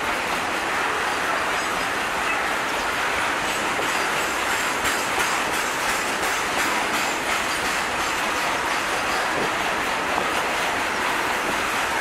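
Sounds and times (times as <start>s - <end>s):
train wheels rolling on rails: 0.0s - 12.0s
clicks over rail joints: 1.6s - 12.0s.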